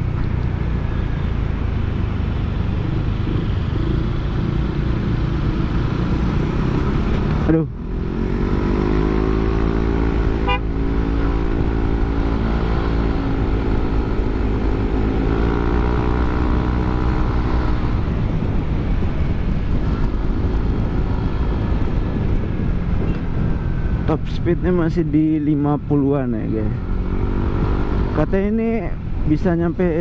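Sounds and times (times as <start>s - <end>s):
steady rushing noise: 0.0s - 25.6s.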